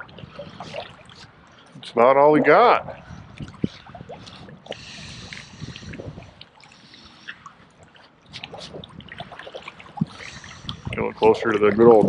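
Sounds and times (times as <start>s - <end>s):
wind rumbling on microphone: 0.0s - 6.5s, 7.7s - 12.0s
lake water lapping and splashing: 0.0s - 12.0s.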